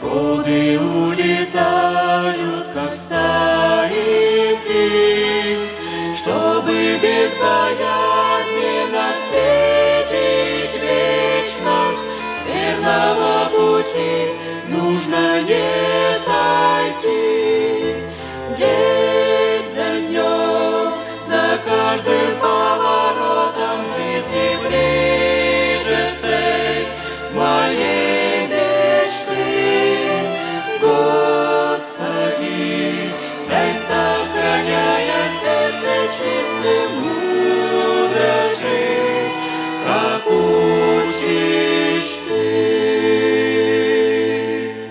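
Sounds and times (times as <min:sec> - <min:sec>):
slow violin orchestra music: 0:00.0 - 0:44.9.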